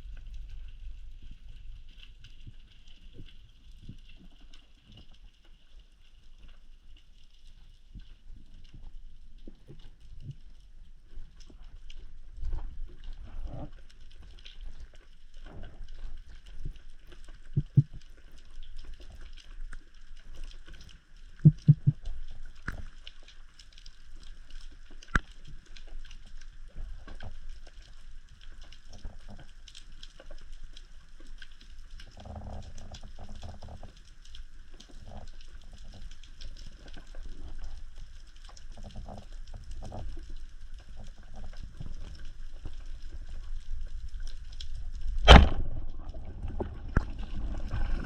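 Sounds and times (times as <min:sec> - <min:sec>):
underwater sloshing and gurgling: 0:00.0 - 0:48.0.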